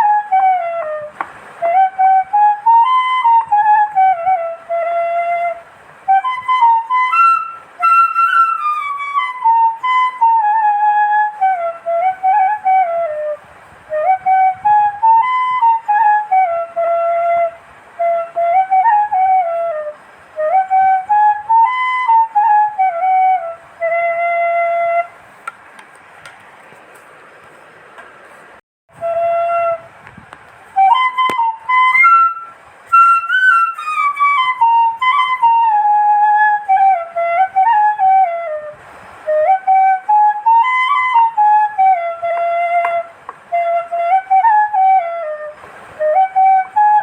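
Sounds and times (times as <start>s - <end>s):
solo flute melody: 0.0s - 25.4s, 28.9s - 47.0s.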